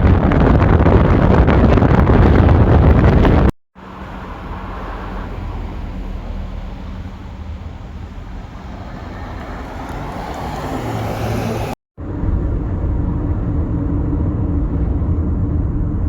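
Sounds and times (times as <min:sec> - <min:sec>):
low hum of moving vehicle: 0:00.0 - 0:16.0.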